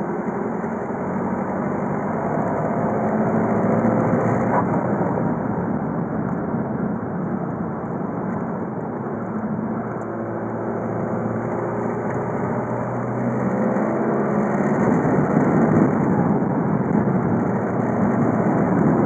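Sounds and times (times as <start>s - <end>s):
diesel engine drone: 0.0s - 19.0s
road noise inside car: 0.0s - 19.0s.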